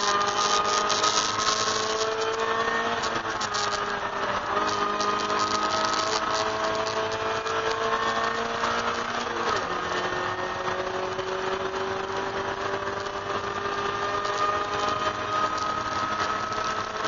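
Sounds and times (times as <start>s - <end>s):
car engine at full throttle: 0.0s - 17.0s
wind and road noise: 0.0s - 17.0s.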